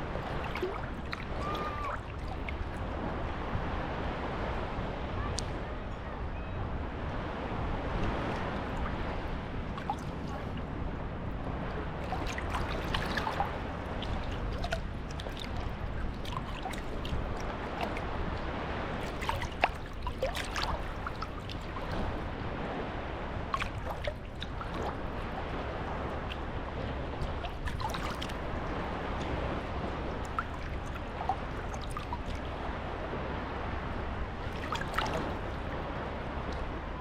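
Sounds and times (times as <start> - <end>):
small waves lapping: 0.0 - 5.6, 7.4 - 37.0.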